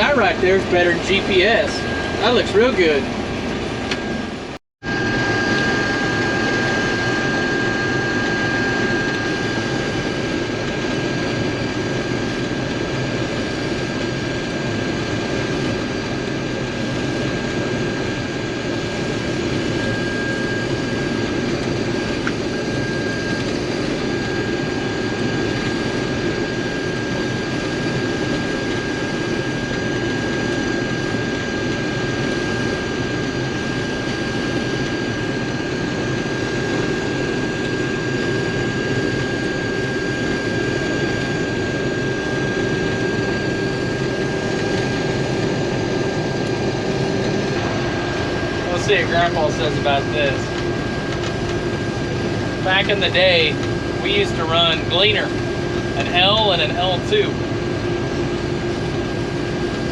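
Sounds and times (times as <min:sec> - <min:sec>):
combine harvester drone: 0:00.0 - 0:59.9
thin high whine: 0:00.0 - 0:59.9.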